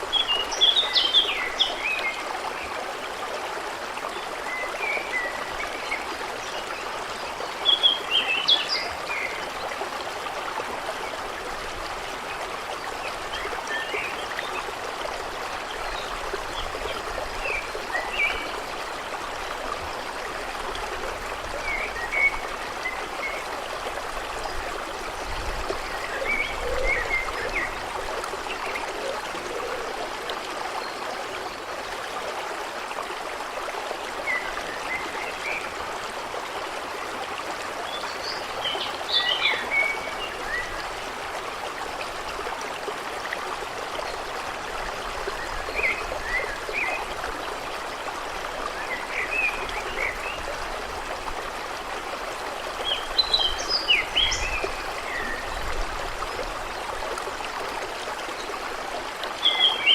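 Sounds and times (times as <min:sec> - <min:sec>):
creek babbling: 0:00.0 - 0:59.9.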